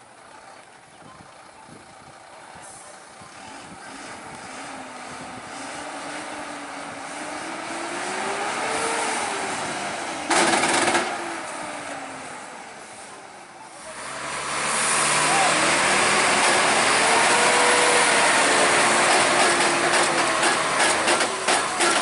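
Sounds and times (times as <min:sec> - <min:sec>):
truck engine approaching: 0:00.0 - 0:22.0.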